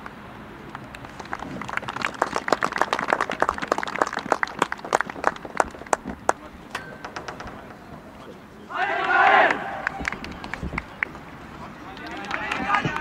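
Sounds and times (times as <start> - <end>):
people clapping: 0.0 - 6.5, 8.8 - 13.0.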